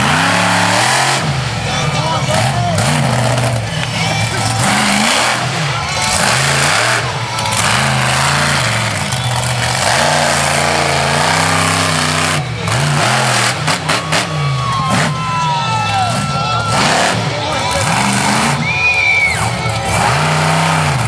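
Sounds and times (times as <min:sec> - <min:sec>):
monster truck engine revving: 0:00.0 - 0:21.0.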